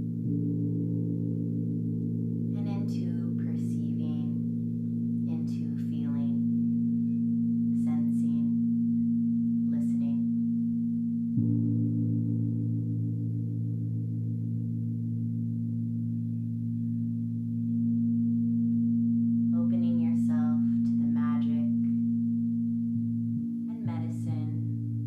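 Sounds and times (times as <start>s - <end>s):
singing bowls and gong drone: 0.0s - 25.0s.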